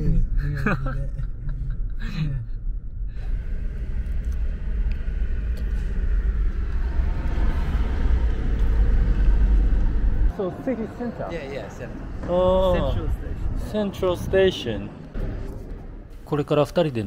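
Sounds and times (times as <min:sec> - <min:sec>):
car engine and road noise: 0:02.7 - 0:17.0.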